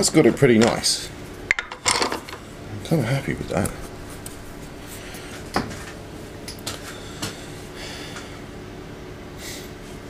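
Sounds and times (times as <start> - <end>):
steady low hum: 0.8 - 9.3.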